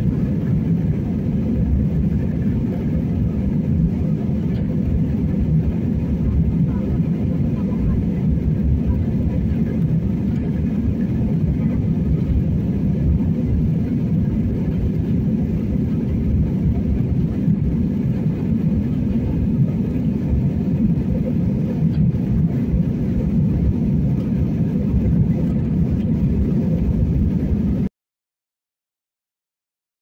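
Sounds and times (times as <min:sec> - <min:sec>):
jet engines roaring in cabin: 0:00.0 - 0:27.9.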